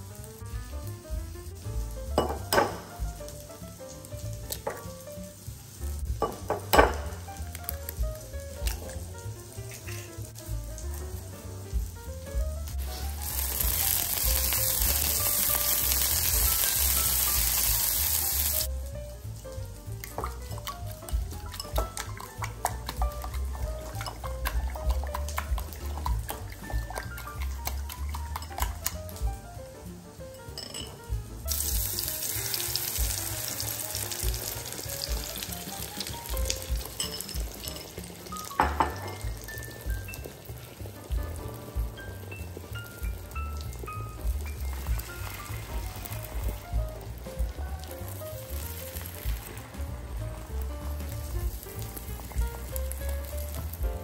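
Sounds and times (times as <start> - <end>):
background music: 0.0 - 54.0
vegetables sizzling in oil: 0.0 - 54.0.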